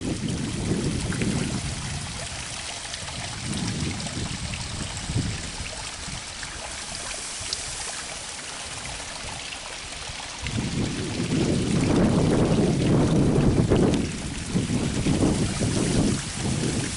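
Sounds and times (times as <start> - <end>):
water trickling: 0.0 - 16.9
wind buffeting microphone: 0.0 - 16.9.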